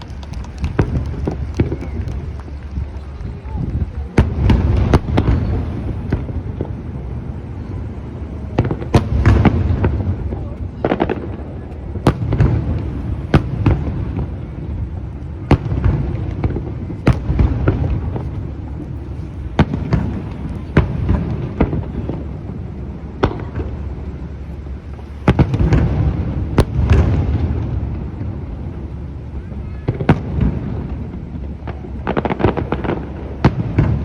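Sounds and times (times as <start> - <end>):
low rumble of booms and echoes: 0.0 - 34.0.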